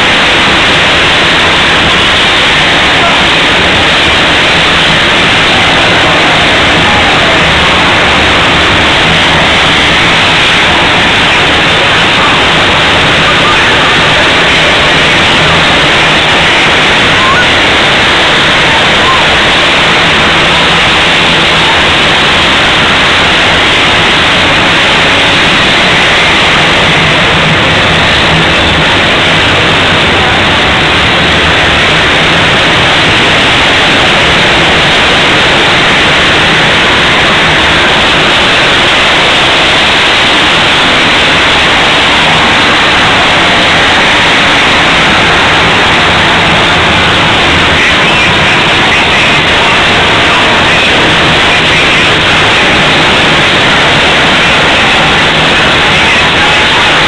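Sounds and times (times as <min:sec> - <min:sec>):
crowd noise: 0:00.0 - 0:57.0
racing atv engines: 0:00.0 - 0:57.0.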